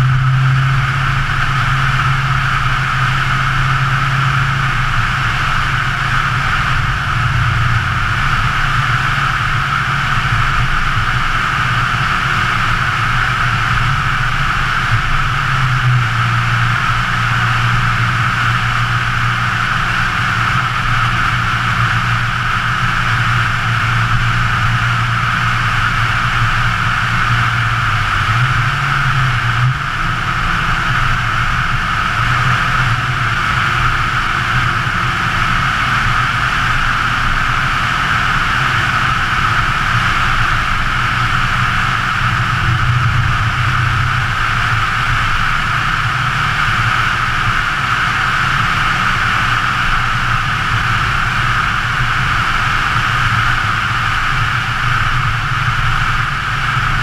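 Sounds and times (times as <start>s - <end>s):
car engine droning: 0.0s - 57.0s
wind and road noise: 0.0s - 57.0s.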